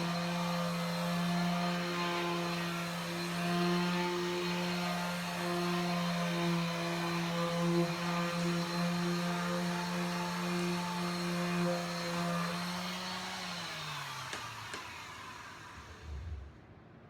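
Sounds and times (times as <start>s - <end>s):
electric sander running: 0.0s - 16.5s.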